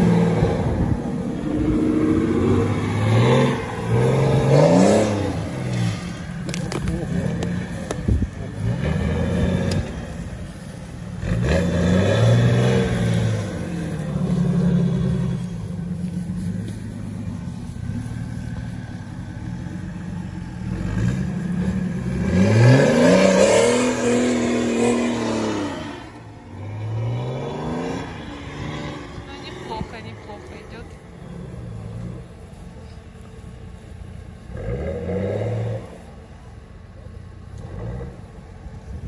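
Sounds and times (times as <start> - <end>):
buggy engine revving: 0.0 - 39.0.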